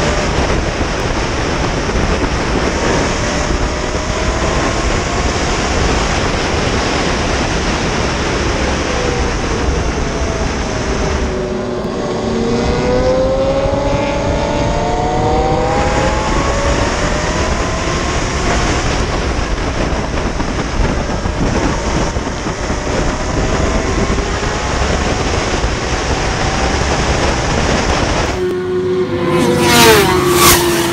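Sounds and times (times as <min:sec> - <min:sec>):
heavy wind rush: 0:00.0 - 0:30.9
motorcycle engine whine: 0:00.0 - 0:30.9.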